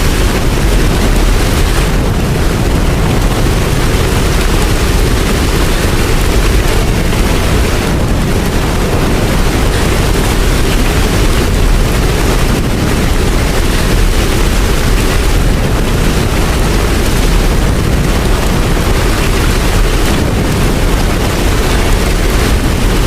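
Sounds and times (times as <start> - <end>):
deep low rumble: 0.0 - 23.0
steady rain hiss: 0.0 - 23.0.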